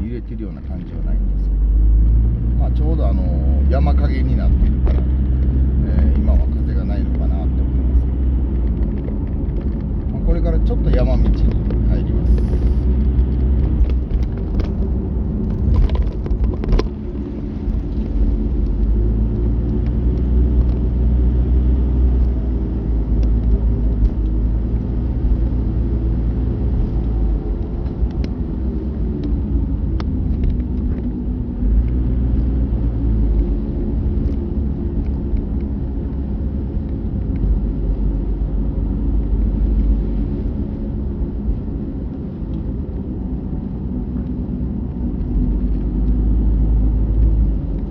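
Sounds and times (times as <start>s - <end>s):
car engine: 0.0s - 47.9s
road rumble: 0.0s - 47.9s.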